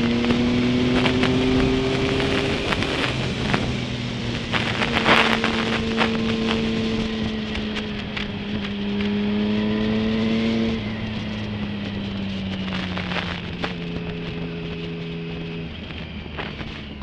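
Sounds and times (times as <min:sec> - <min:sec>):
motorcycle engine running: 0:00.0 - 0:17.0
rushing wind noise: 0:00.0 - 0:17.0.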